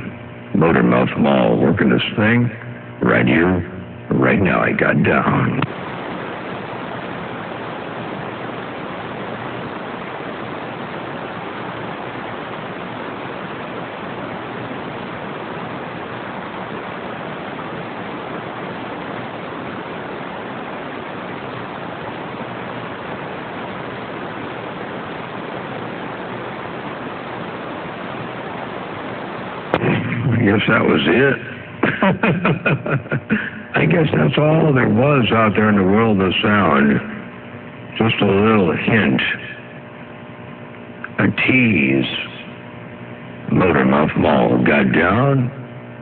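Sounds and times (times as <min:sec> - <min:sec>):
radio static hiss: 0:00.0 - 0:46.0.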